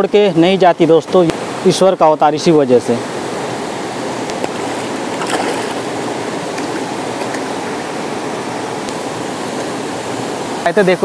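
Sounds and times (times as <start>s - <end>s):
flowing water from stream and waterfall: 0.0s - 11.0s.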